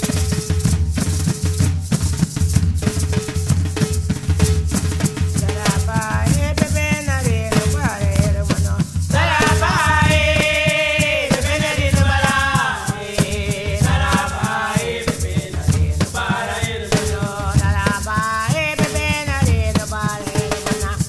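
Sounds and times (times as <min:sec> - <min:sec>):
music with bass and percussion: 0:00.0 - 0:21.0.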